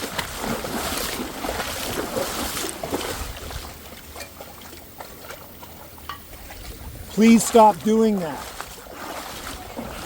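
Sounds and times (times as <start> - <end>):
creek water trickling: 0.0 - 10.0
small splashes and knocks: 0.0 - 10.0.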